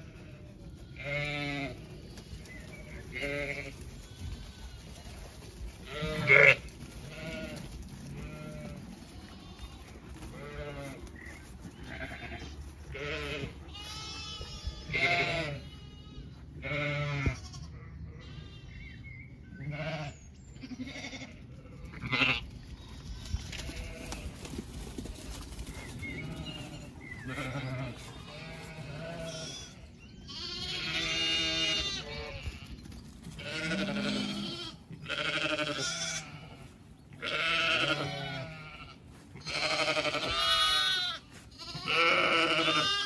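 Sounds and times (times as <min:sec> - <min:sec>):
sheep and lambs bleating: 0:00.0 - 0:24.4, 0:25.1 - 0:43.0.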